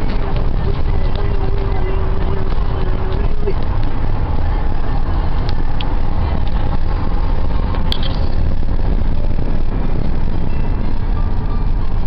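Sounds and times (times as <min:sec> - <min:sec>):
vehicle cabin road noise: 0:00.0 - 0:12.0.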